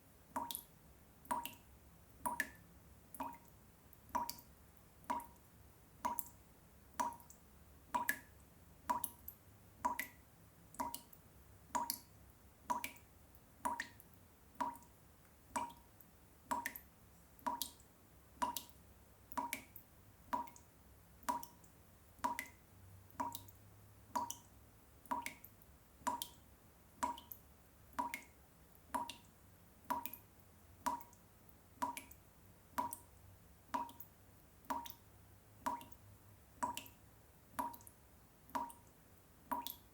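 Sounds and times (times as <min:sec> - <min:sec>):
water drops dripping: 0:00.3 - 0:26.4, 0:27.0 - 0:39.9.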